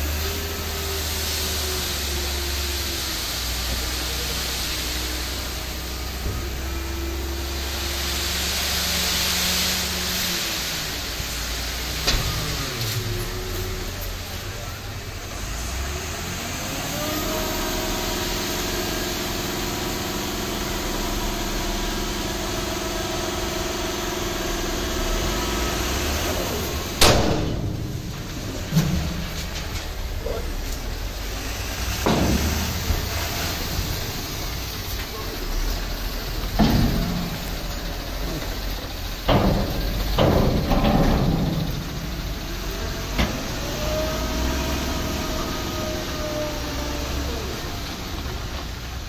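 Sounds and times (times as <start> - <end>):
diesel truck engine revving: 0.0 - 49.0.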